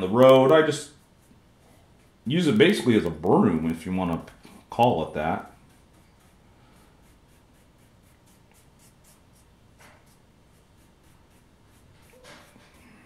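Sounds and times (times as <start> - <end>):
faint rapid brushing: 0.0 - 13.0.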